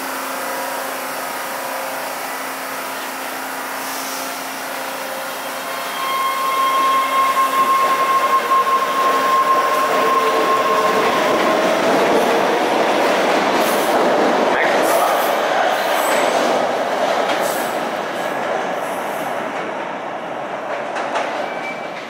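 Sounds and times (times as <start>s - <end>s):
subway train hum: 0.0s - 22.0s
wheels rushing on rail: 0.2s - 22.0s.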